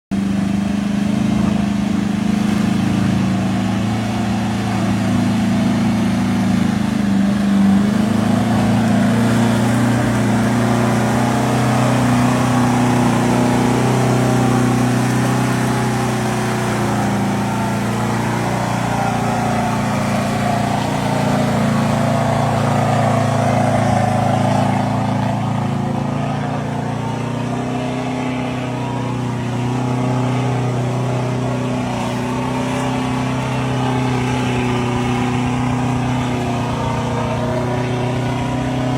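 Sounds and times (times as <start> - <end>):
pickup truck engine under load: 0.1 - 38.9.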